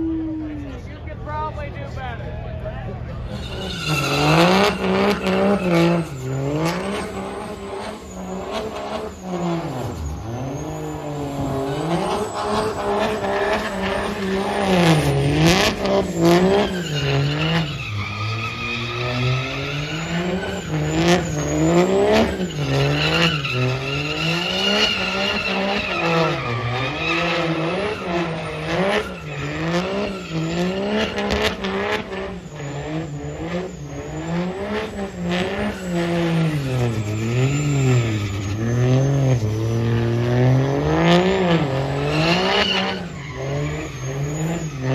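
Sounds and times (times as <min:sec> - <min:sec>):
truck engine revving: 0:02.6 - 0:44.9
tyres squealing: 0:03.0 - 0:44.9.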